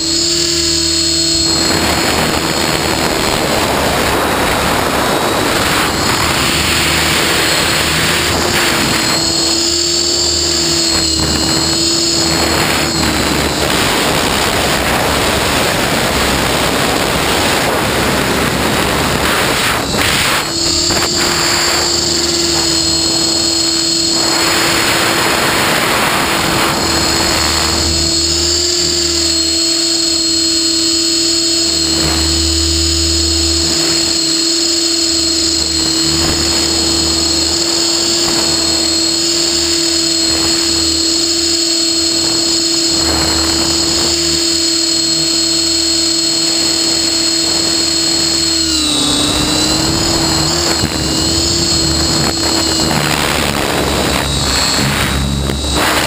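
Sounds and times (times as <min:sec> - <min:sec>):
helicopter motor whine: 0:00.0 - 0:56.0
rotor wash: 0:00.0 - 0:56.0.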